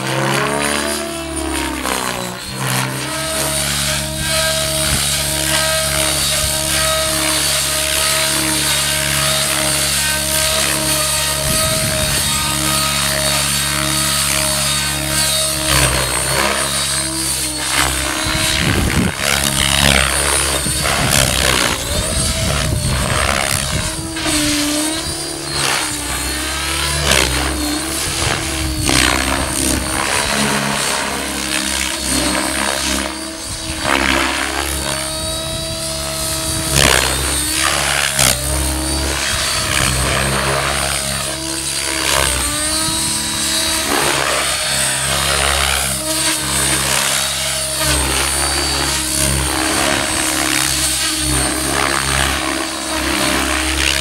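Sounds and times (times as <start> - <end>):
rc helicopter rotor and motor whine: 0.0 - 54.0.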